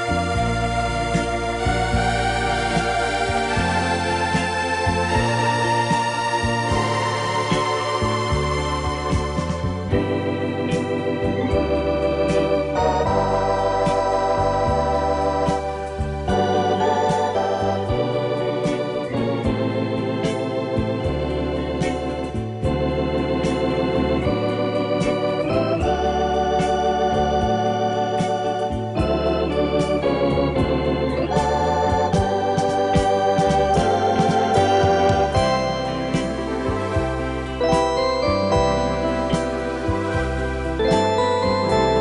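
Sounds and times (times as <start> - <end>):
bass line: 0.0 - 42.0
organ-like keyboard chords: 0.0 - 42.0.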